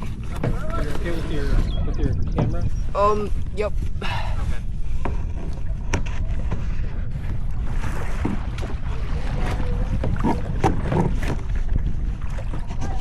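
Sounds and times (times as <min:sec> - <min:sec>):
water splashing: 0:00.0 - 0:13.0
wind rumbling on microphone: 0:00.0 - 0:13.0.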